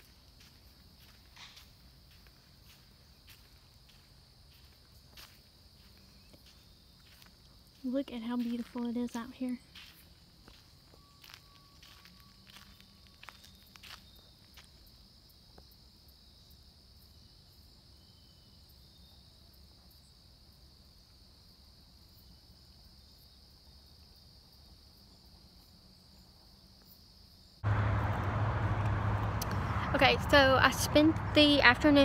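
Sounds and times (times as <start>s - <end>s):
crickets chirping: 0.0s - 32.0s
outdoor noise with low hum: 0.0s - 32.0s.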